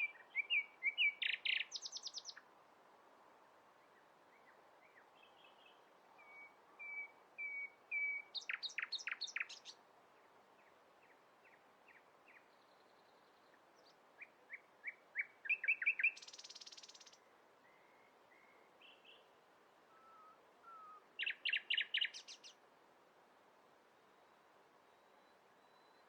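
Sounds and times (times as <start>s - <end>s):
songbirds chirping: 0.0s - 2.6s, 3.7s - 22.7s.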